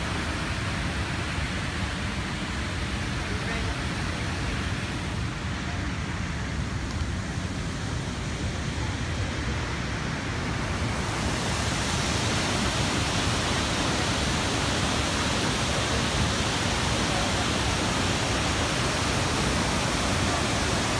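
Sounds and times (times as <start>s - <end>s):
large waterfall rushing: 0.0s - 20.9s.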